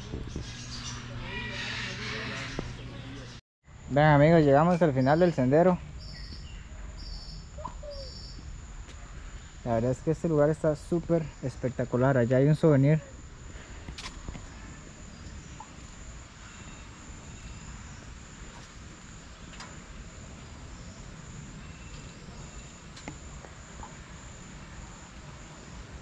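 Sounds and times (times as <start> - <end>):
insects droning: 0.0 - 26.0
low outdoor rumble: 0.0 - 26.0.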